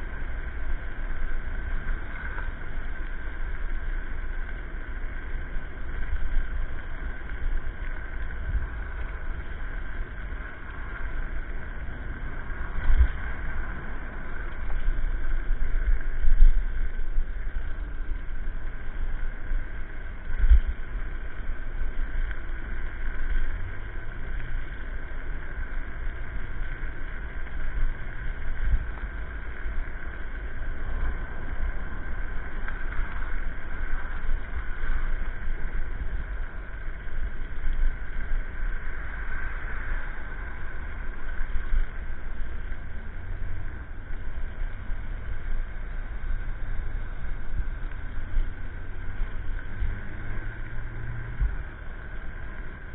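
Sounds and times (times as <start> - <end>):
road rumble with jolts: 0.0 - 52.9
steady high whine: 0.0 - 52.9.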